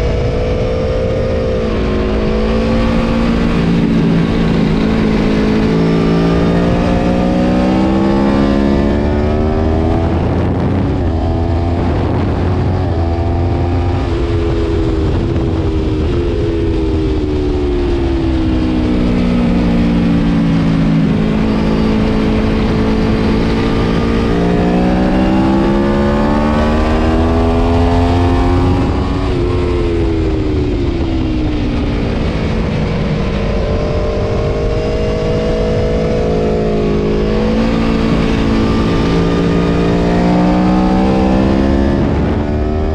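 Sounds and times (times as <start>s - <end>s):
motorcycle engine revving: 0.0s - 42.9s
wind on microphone: 0.0s - 42.9s.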